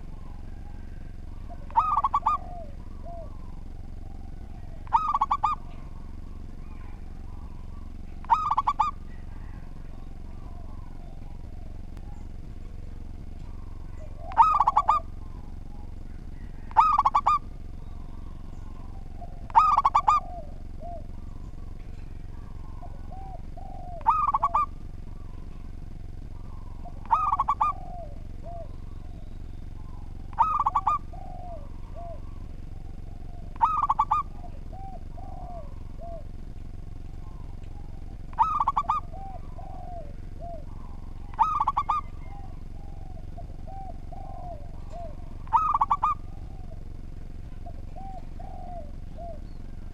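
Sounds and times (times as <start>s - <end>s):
dove cooing: 0.0s - 49.9s
steady low hum: 0.0s - 49.9s.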